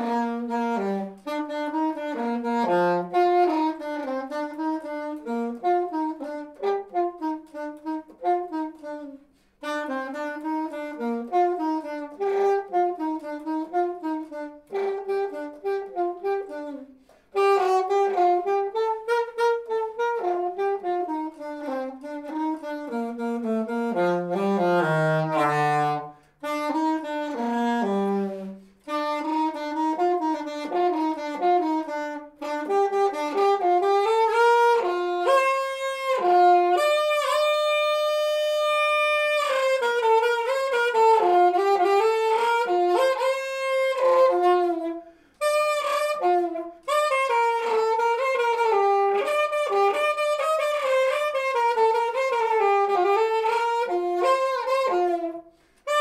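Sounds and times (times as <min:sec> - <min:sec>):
saxophone slow melody: 0:00.0 - 0:56.0.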